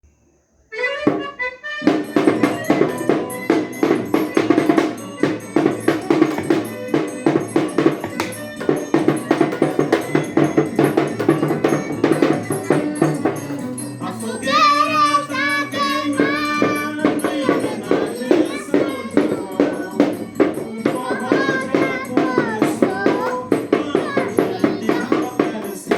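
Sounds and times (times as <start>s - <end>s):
wavering melody line: 1.8s - 23.4s
fast percussion beat: 1.9s - 25.9s.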